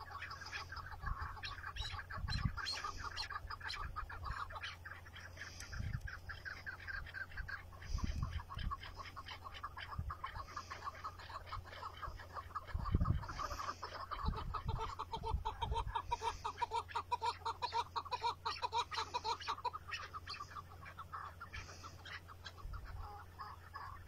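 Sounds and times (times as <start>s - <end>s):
partridge clucking call: 0.0s - 24.0s.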